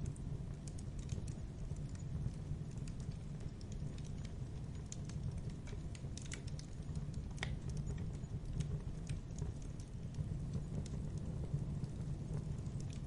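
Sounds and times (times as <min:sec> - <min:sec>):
wood fire burning: 0:00.0 - 0:13.0.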